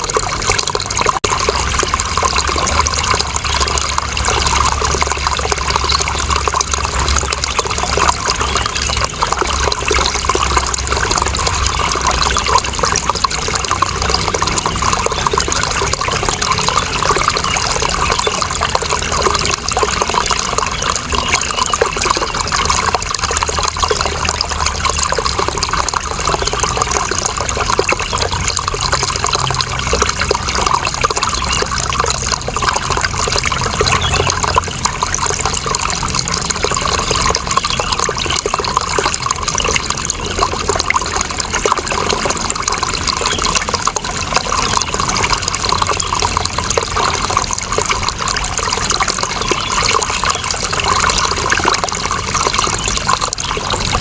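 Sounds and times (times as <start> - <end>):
running water splashing: 0.0 - 54.0.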